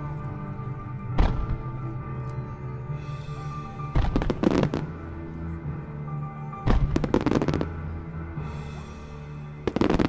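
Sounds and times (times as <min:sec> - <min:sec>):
music with long held notes: 0:00.0 - 0:10.0.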